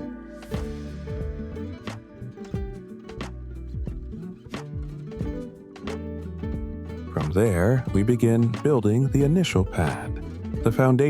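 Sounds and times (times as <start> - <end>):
sliding bass notes: 0.0 - 4.2, 6.0 - 11.0.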